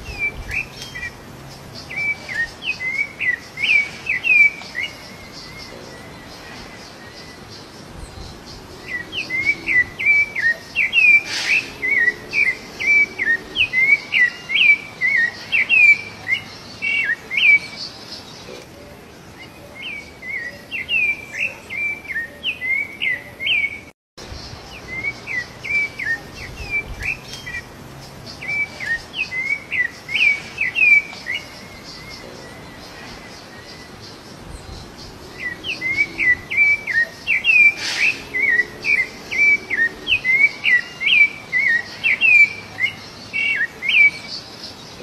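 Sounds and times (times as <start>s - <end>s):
thrush singing whistled notes: 0.0s - 18.3s, 19.4s - 45.0s.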